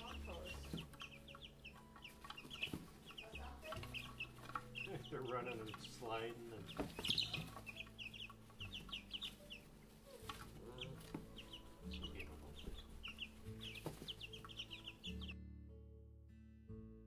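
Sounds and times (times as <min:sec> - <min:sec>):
chicks peeping: 0:00.0 - 0:15.4
quiet guitar music: 0:00.0 - 0:17.0.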